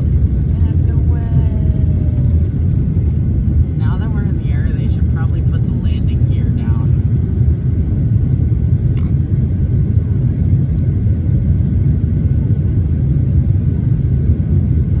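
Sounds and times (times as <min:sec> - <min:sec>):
jet engines rumbling at takeoff: 0:00.0 - 0:15.0.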